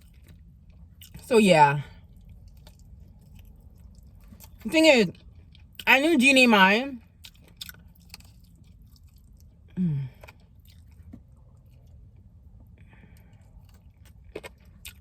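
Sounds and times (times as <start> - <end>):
person chewing fried chicken: 0.0 - 1.2, 1.9 - 5.9, 7.0 - 15.0.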